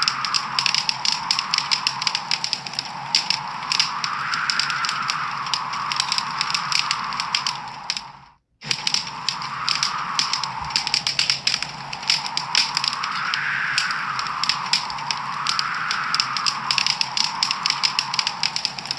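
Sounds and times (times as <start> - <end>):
soft hiss: 0.0 - 18.9
wood fire crackling and popping: 0.0 - 18.9.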